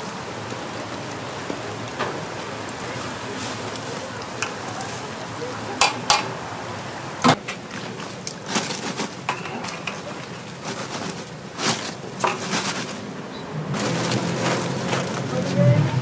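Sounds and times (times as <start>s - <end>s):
oil sizzling: 0.0s - 15.4s.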